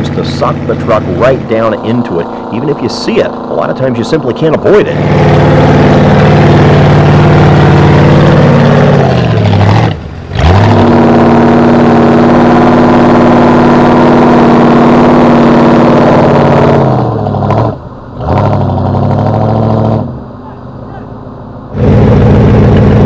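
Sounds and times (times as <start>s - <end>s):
truck engine revving hard: 0.0s - 20.4s, 21.1s - 23.0s.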